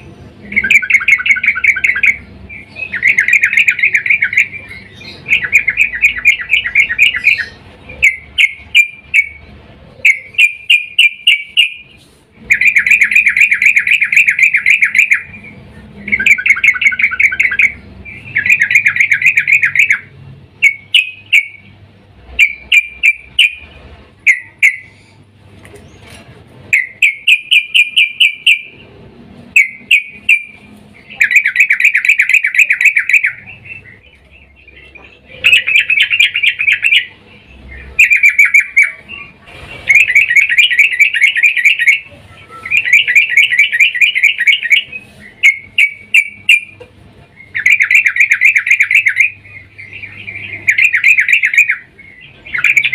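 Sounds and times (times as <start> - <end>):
bird chattering calls: 0.0 - 52.9.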